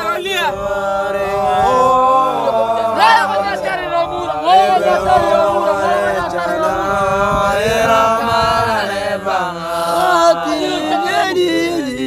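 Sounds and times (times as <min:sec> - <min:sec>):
voices singing a chant: 0:00.0 - 0:12.0.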